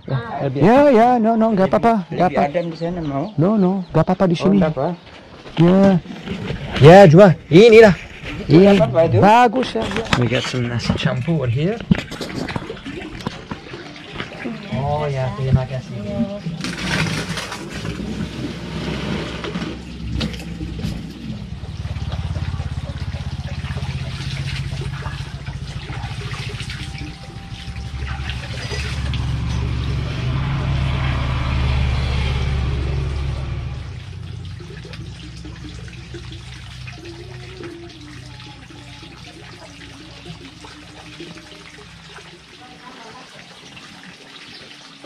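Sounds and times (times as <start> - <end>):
water running from hose and splashing: 4.9 - 45.0.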